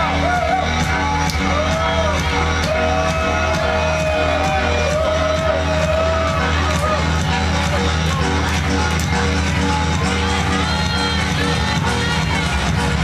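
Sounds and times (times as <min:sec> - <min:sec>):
crowd shouting and whooping: 0:00.0 - 0:13.0
electronic dance music: 0:00.0 - 0:13.0.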